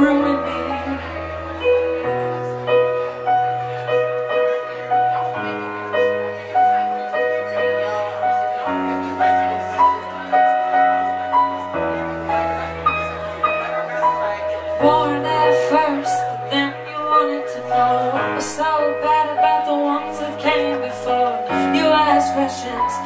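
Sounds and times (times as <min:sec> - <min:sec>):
keyboard playing slow ballad: 0:00.0 - 0:23.0.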